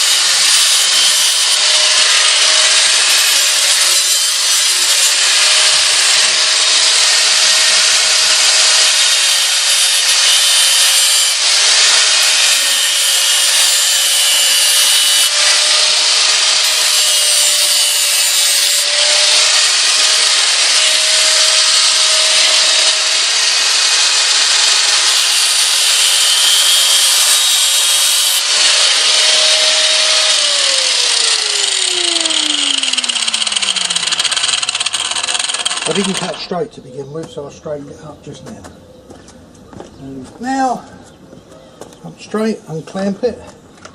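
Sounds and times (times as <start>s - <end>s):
angle grinder cutting sheet metal: 0.0s - 36.6s.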